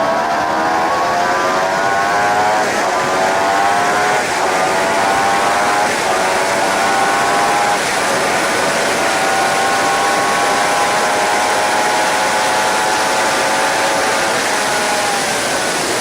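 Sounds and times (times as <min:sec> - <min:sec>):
motorcycle engine running hard: 0:00.0 - 0:16.0
wind rush on microphone: 0:00.0 - 0:16.0.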